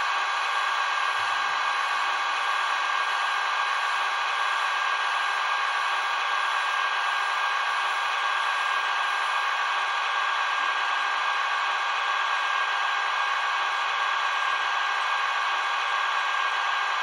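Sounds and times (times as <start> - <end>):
model crane motor whirring: 0.1 - 17.0.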